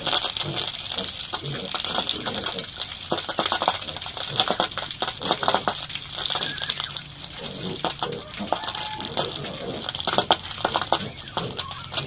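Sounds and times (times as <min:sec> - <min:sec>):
pigs chewing: 0:00.0 - 0:12.0.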